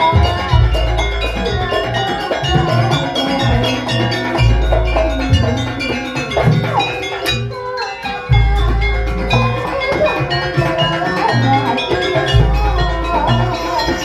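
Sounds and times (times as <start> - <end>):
drum strokes: 0.0 - 14.0
ringing metallic tones: 0.0 - 14.0.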